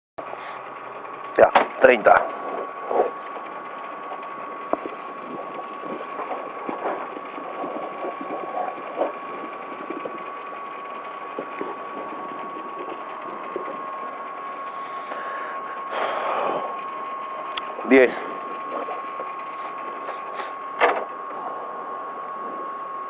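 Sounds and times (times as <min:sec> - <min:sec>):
car engine idling: 0:00.2 - 0:22.0
high-pitched whine: 0:00.2 - 0:23.0.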